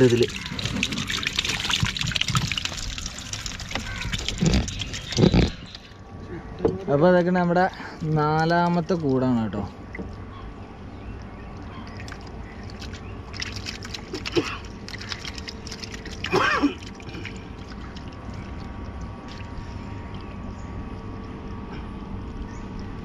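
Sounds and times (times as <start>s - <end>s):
water sloshing and splashing: 0.0s - 6.3s, 8.0s - 23.0s.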